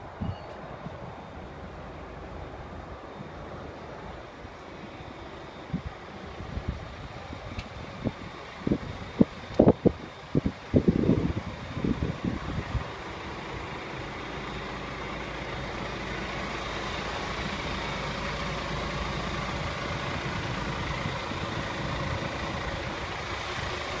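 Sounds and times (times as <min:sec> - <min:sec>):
truck diesel engine idling: 0:00.6 - 0:24.0.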